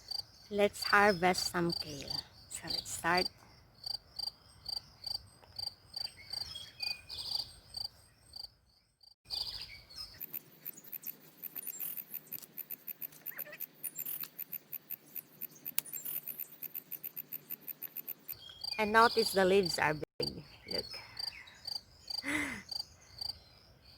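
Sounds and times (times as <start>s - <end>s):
insects chirping: 0.0s - 23.4s.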